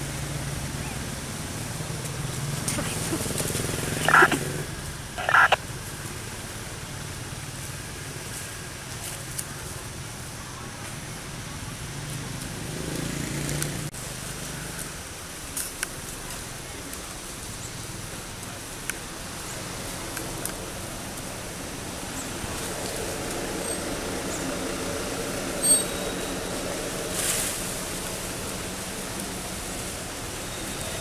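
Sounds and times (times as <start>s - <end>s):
outdoor rumble and hiss: 0.0s - 31.0s.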